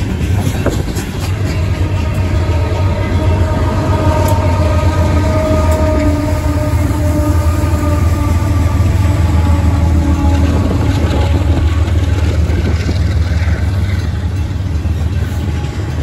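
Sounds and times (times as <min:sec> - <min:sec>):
coal train rumbling: 0:00.0 - 0:16.0.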